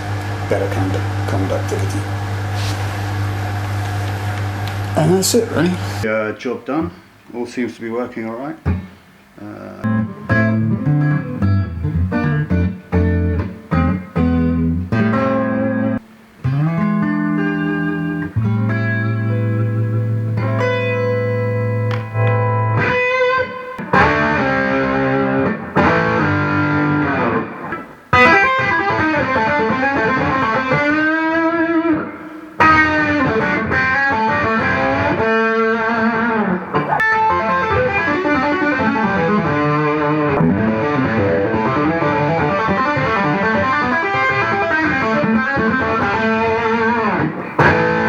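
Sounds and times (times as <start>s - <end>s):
electric guitar lead lines: 0.0s - 6.0s, 8.6s - 48.0s.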